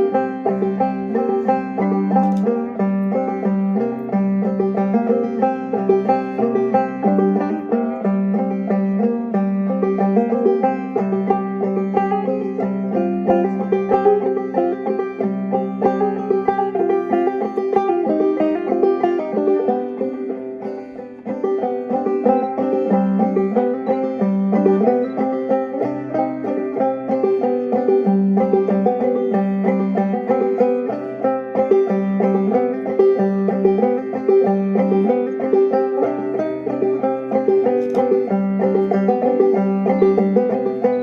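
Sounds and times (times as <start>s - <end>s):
banjo plucking: 0.0s - 41.0s.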